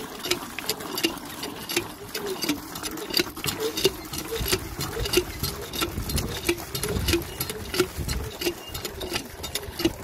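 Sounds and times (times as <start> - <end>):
pump squeaking and clicking: 0.0 - 10.0
water splashing into bucket: 0.0 - 10.0.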